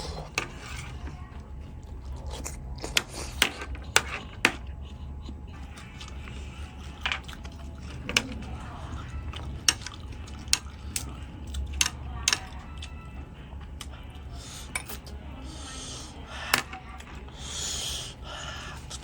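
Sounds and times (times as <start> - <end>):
chewing: 0.0 - 19.0
steady low hum: 0.0 - 19.0.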